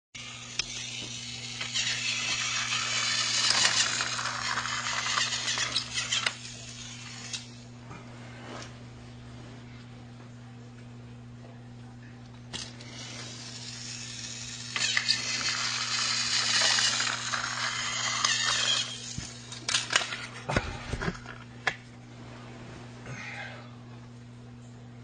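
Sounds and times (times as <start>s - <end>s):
steady low hum: 0.2s - 25.0s.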